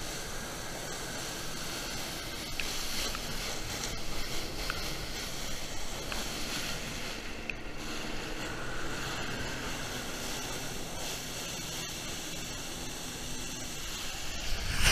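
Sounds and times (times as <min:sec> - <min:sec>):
water jets spraying onto lake: 0:00.0 - 0:14.9.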